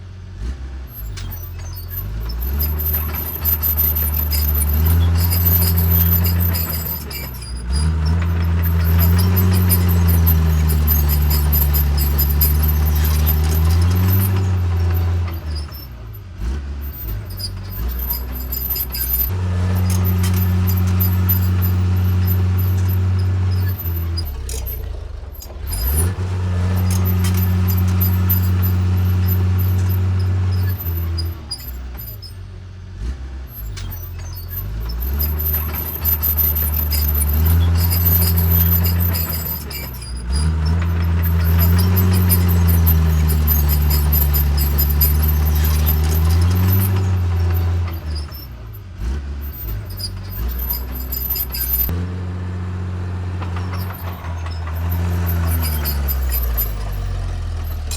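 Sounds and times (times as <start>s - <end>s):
heavy diesel engine under load: 0.0s - 57.9s
metal clanks and clicks: 1.1s - 16.2s, 16.8s - 32.3s, 33.6s - 48.8s, 53.4s - 57.9s.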